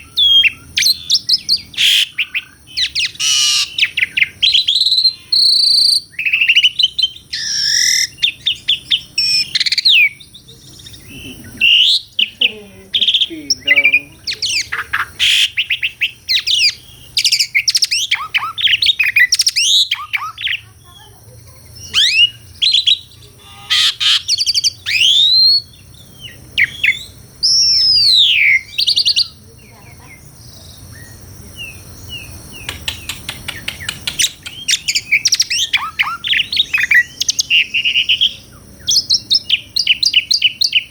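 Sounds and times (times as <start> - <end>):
starling singing whistles: 0.0 - 20.6, 21.6 - 40.9
bird chattering notes: 0.0 - 30.3, 31.1 - 40.9.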